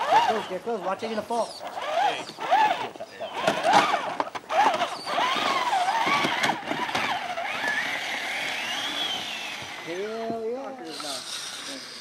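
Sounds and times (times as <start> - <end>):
rc truck electric motor whine: 0.0 - 0.6, 1.8 - 12.0.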